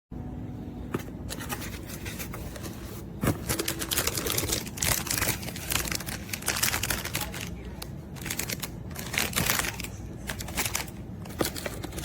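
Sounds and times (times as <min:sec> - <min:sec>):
clicking and crinkling: 0:01.3 - 0:12.0.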